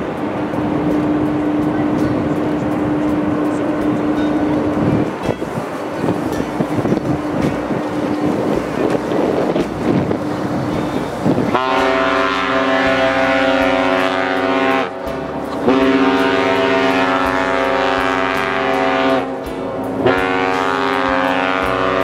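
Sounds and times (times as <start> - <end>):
ship horn blasts: 1.2 - 22.0.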